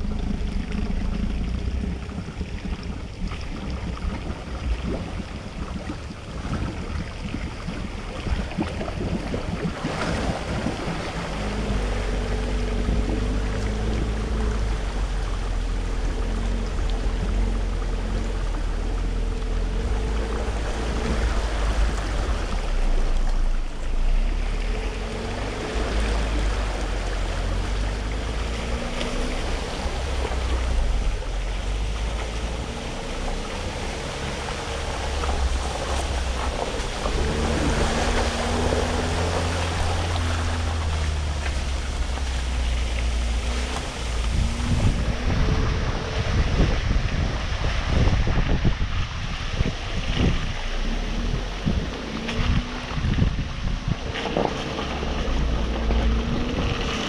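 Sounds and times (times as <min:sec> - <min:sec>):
off-road vehicle engine: 0:00.0 - 0:57.0
wind on microphone: 0:00.0 - 0:57.0.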